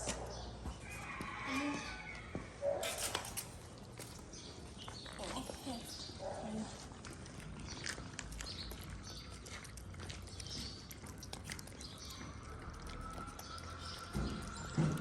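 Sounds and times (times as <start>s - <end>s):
cats chewing and crunching: 0.0s - 15.0s.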